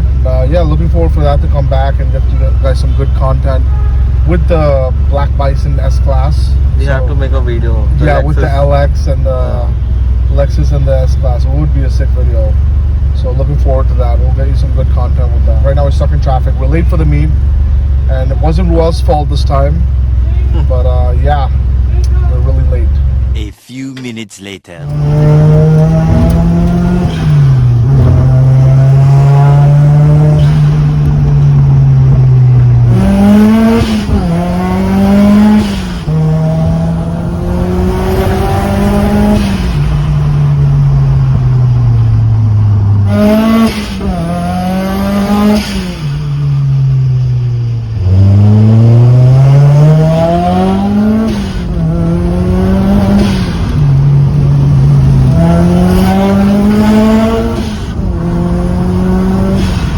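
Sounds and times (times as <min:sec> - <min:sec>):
turbocharged car engine accelerating: 0:04.2 - 0:23.5, 0:24.8 - 0:59.9.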